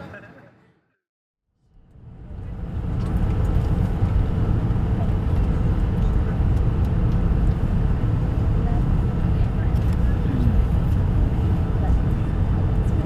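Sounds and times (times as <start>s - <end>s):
jet engine rumble: 1.7s - 13.0s.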